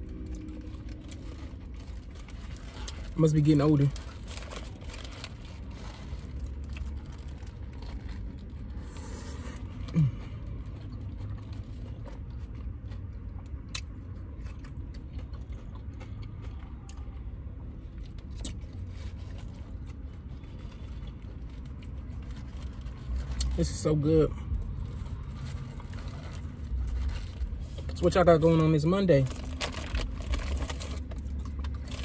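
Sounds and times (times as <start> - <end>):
chewing and crunching: 0.0 - 32.0
steady low rumble: 0.0 - 32.0.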